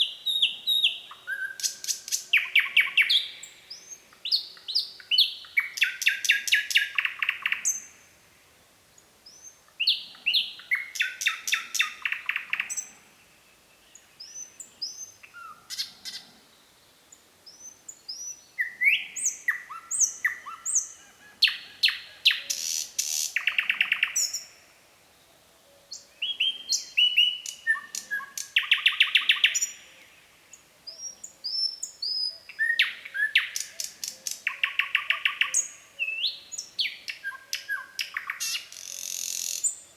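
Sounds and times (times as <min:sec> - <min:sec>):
nightingale singing: 0:00.0 - 0:08.2, 0:08.9 - 0:16.4, 0:17.0 - 0:24.6, 0:25.6 - 0:39.9.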